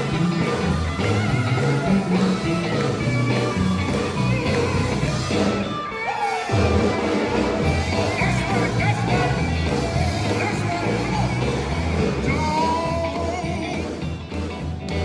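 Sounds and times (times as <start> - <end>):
bass line: 0.0 - 15.0
steel guitar band playing gospel: 0.0 - 15.0.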